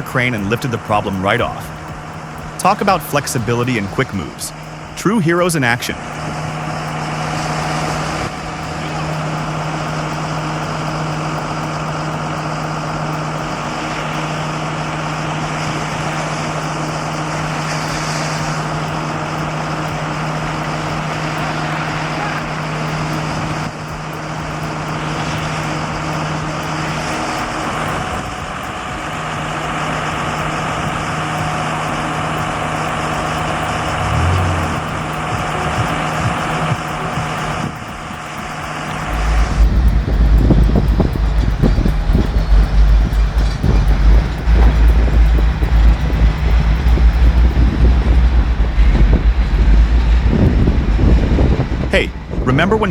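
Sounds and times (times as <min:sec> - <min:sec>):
heavy machinery engine humming: 0:00.0 - 0:52.4.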